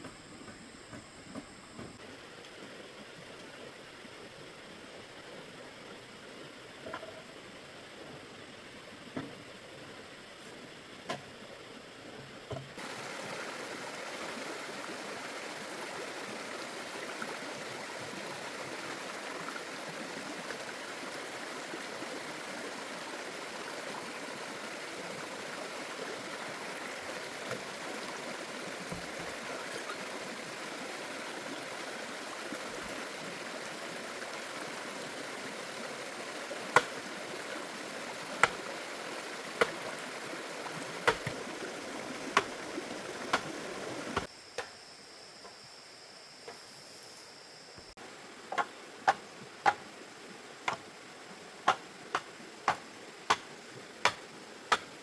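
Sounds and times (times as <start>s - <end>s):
flowing stream water: 0.0s - 44.3s, 47.9s - 55.0s.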